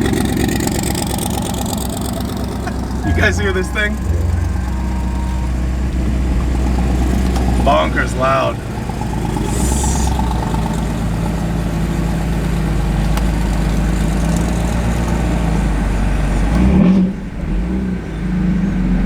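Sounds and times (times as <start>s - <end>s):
loud exhaust rumble: 0.0s - 19.0s.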